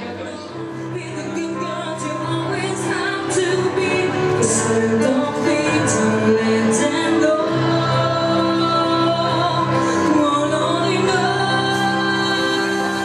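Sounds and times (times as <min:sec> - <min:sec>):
accompanying music: 0:00.0 - 0:13.0
woman singing into a microphone: 0:00.1 - 0:13.0.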